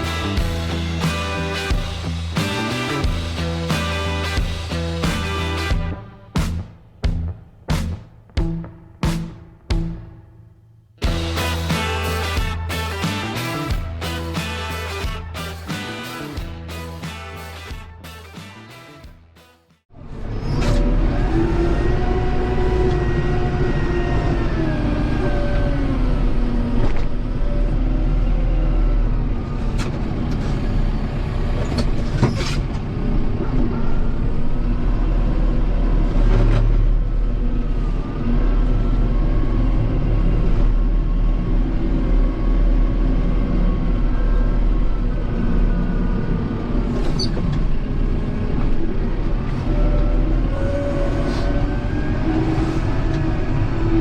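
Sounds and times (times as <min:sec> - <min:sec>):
tractor diesel engine: 0:00.0 - 0:07.7, 0:11.0 - 0:19.0, 0:19.9 - 0:54.0.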